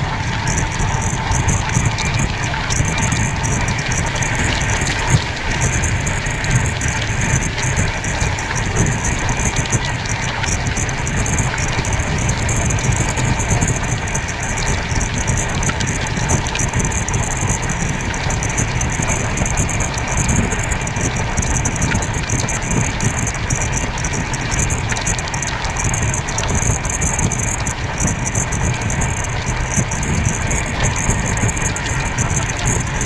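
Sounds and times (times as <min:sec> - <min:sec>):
small irregular clicks: 0:00.0 - 0:33.0
train wheels rumbling on rails: 0:00.0 - 0:33.0.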